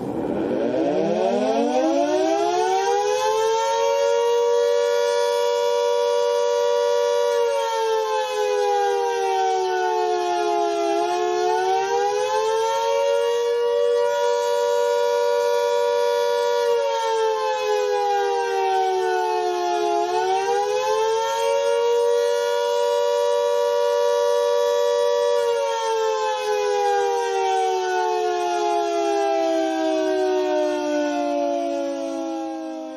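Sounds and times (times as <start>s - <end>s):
air raid siren wailing: 0.0s - 32.9s.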